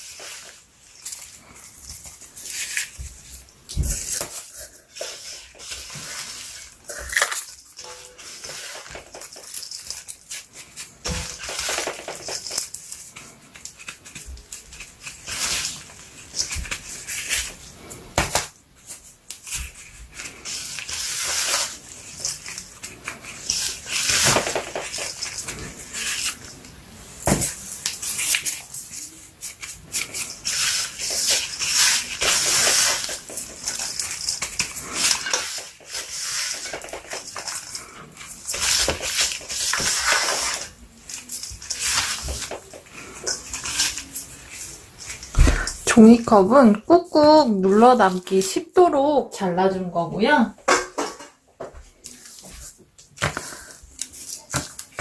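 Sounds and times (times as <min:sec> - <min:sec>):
gritty scraping of powder: 0:00.0 - 0:18.1, 0:18.9 - 0:46.3.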